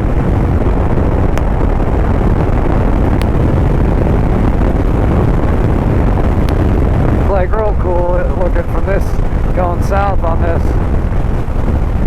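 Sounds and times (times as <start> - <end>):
motorcycle engine and road noise: 0.0 - 12.0
wind buffeting microphone: 0.0 - 12.0.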